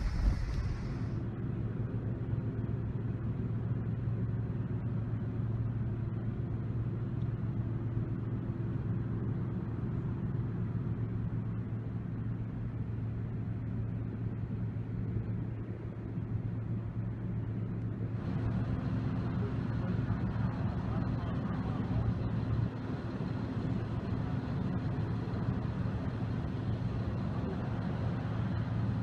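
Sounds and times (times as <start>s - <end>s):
low rumble with droning hum: 0.0s - 29.0s.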